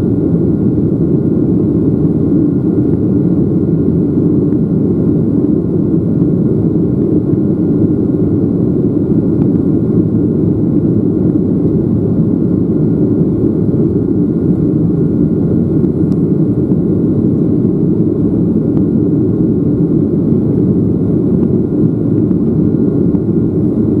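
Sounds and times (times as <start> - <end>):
faint steady whine: 0.0 - 24.0
jet engines rumbling: 0.0 - 24.0.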